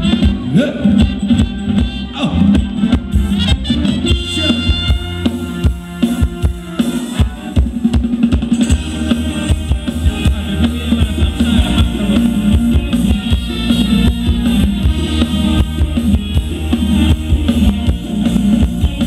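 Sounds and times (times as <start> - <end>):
drum kit steady beat: 0.0 - 19.0
live band playing dance music: 0.0 - 19.0.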